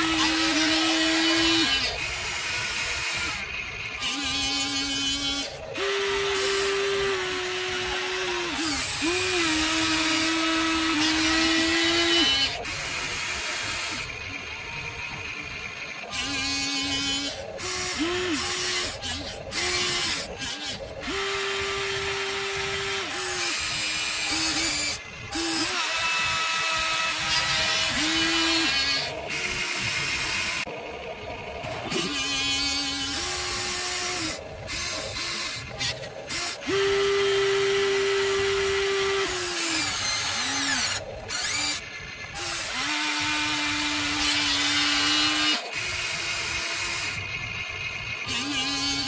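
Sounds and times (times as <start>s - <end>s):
toy excavator motors whining: 0.0s - 49.0s.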